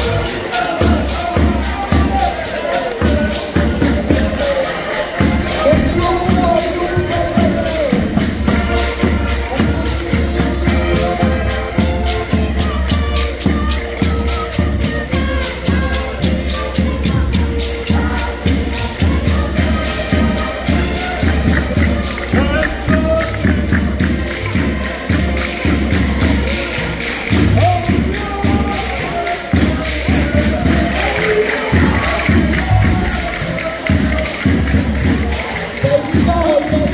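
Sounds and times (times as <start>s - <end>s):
button accordions playing folk dance: 0.0s - 36.9s
jingling tambourine: 0.0s - 36.9s
percussion beat: 0.0s - 36.9s.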